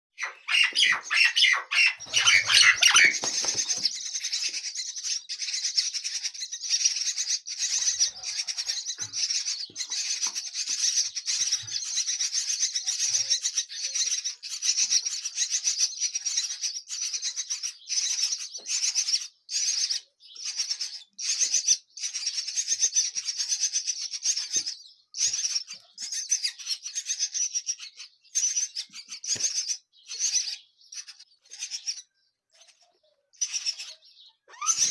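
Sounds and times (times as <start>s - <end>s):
nestling birds cheeping: 0.1s - 34.9s.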